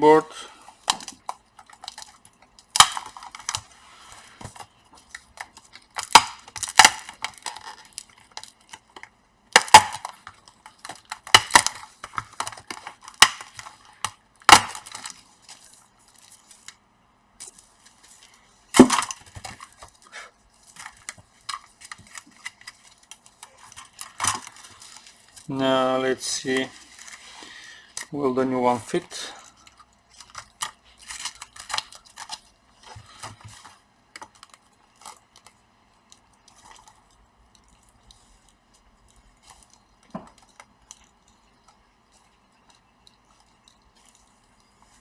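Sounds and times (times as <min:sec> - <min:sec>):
plastic laptop parts clattering: 0:00.7 - 0:16.8, 0:17.4 - 0:20.0, 0:20.6 - 0:25.5, 0:29.4 - 0:45.0.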